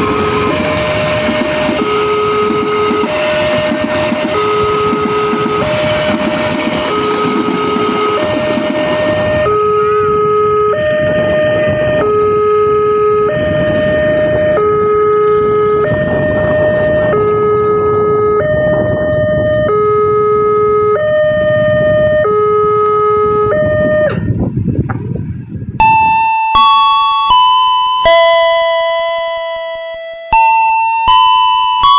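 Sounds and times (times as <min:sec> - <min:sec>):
level crossing two-tone alarm: 0:00.0 - 0:24.3, 0:25.8 - 0:31.9
passing train rumble: 0:00.0 - 0:25.8.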